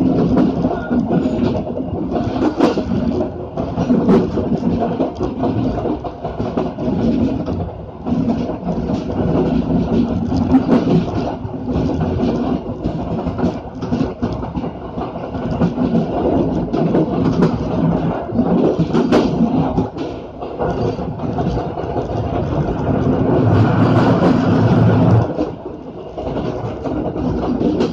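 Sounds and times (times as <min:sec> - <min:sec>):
sharp clicks from rails: 0:00.0 - 0:27.9
train wheels rumbling on track: 0:00.0 - 0:27.9.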